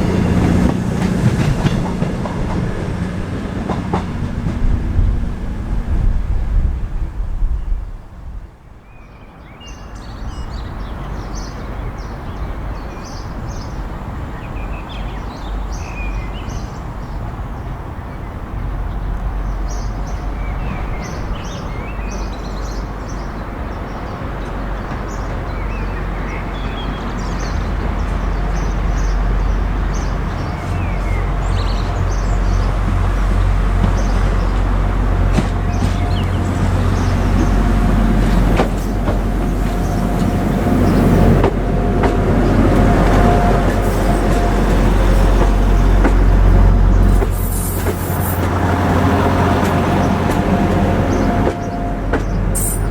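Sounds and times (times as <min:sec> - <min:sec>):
diesel train engine rumbling: 0:00.0 - 0:08.6, 0:10.2 - 0:52.9.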